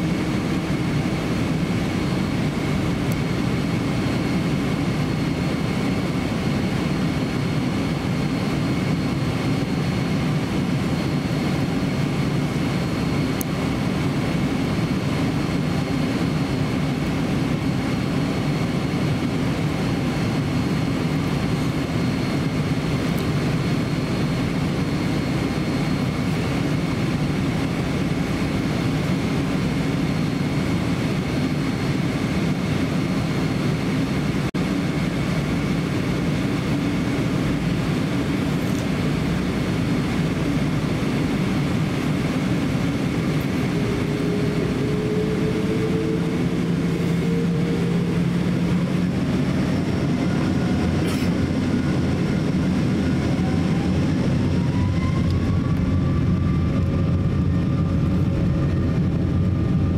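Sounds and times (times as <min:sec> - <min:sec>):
low rumble inside plane cabin: 0:00.0 - 0:59.9
rising jet engine whine: 0:00.0 - 0:59.9.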